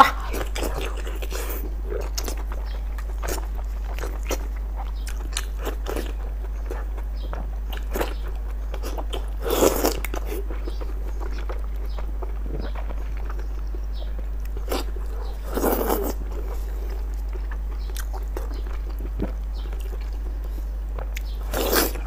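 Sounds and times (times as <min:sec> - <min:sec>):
biting and chewing: 0:00.0 - 0:22.0.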